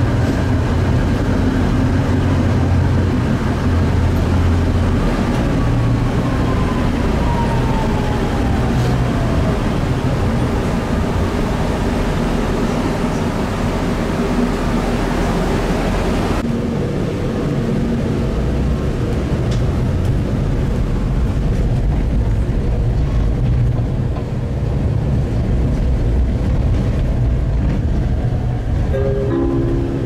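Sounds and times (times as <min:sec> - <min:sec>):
tram rumbling on rails: 0:00.0 - 0:30.0.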